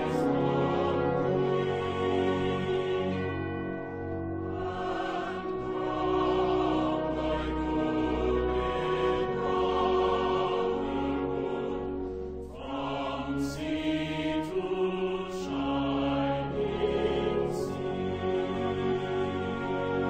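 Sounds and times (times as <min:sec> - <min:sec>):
slow choir-like chanting music: 0:00.0 - 0:20.0.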